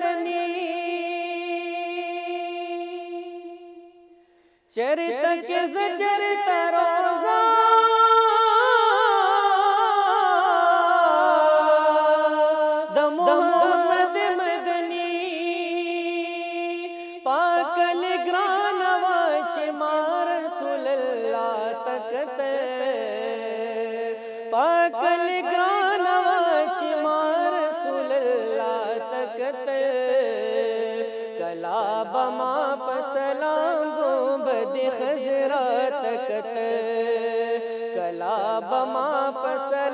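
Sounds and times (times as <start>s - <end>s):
man singing devotional song: 0.0s - 39.9s.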